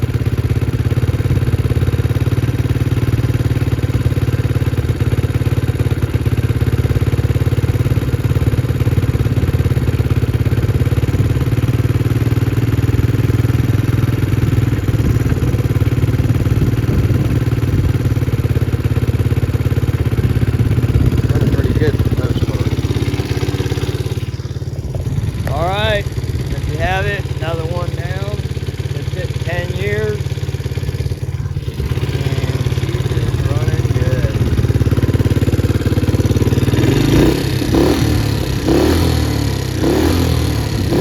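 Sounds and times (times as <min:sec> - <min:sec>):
small engine idling: 0:00.0 - 0:41.0.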